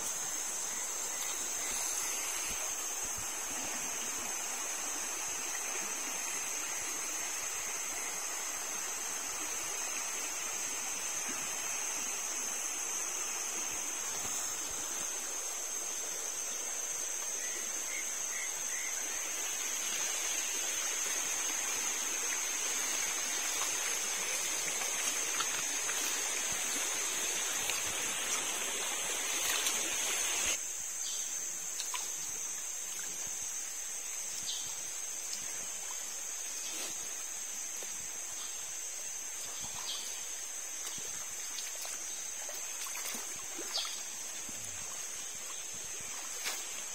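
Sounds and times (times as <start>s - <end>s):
stream running over stones: 0.0s - 46.9s.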